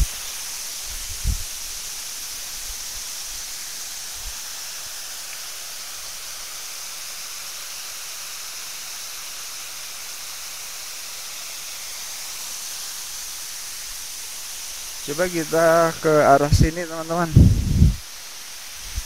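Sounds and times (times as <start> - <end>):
waterfall rushing hiss: 0.0 - 19.0.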